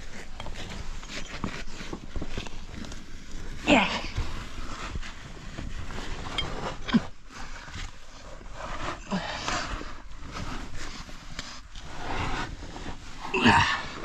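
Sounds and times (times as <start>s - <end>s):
scuffing and scraping on rock: 0.0s - 14.0s.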